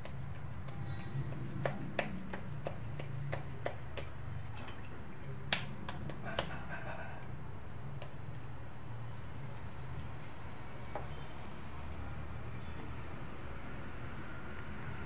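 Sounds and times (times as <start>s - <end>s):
hands kneading dough: 0.0s - 4.2s, 5.4s - 7.0s, 7.8s - 15.0s.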